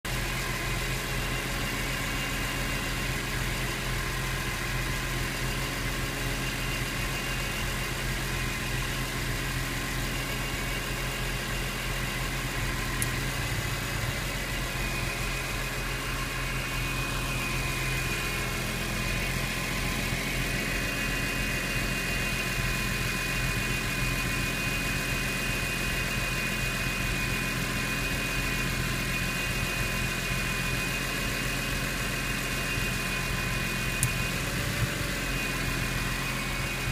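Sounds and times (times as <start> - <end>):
car engine idling: 0.1 - 36.9.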